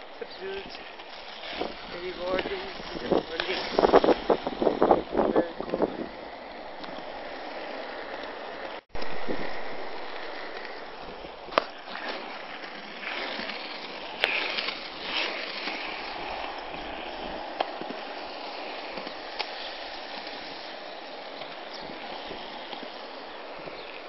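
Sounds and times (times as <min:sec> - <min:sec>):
skateboard wheels rolling on concrete: 0:00.0 - 0:24.0.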